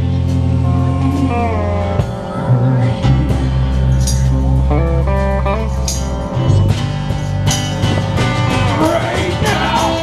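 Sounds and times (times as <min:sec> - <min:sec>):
acoustic and electric guitars: 0:00.0 - 0:10.0
steady bass line: 0:00.0 - 0:10.0.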